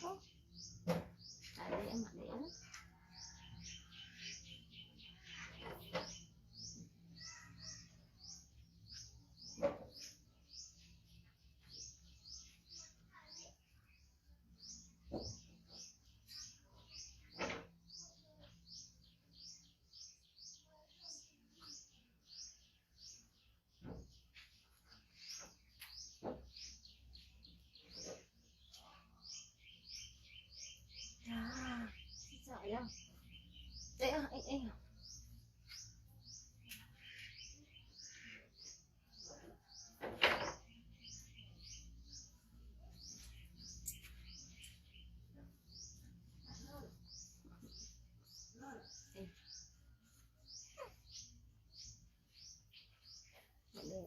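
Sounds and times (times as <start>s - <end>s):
small bird chirping: 0.0s - 54.0s.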